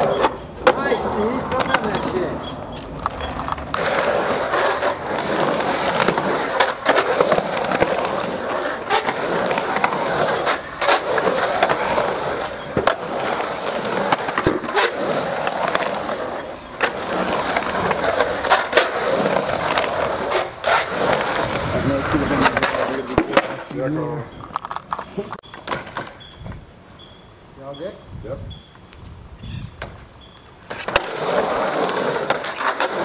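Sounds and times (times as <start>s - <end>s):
skateboard clacks: 0.0s - 26.7s, 29.7s - 33.0s
skateboard wheels rolling on concrete: 0.0s - 33.0s.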